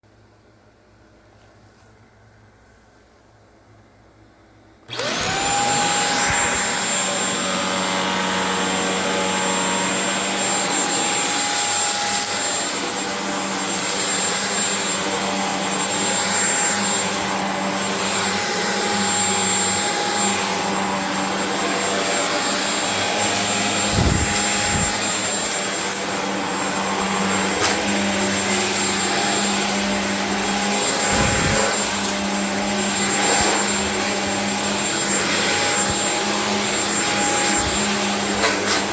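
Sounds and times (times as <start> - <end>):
vacuum cleaner running: 4.8 - 38.9.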